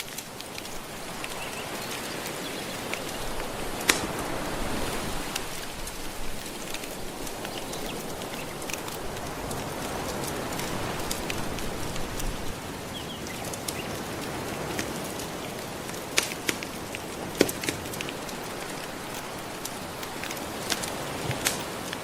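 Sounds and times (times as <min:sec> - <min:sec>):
ocean waves washing: 0:00.0 - 0:22.0
wood fire crackling: 0:00.0 - 0:22.0.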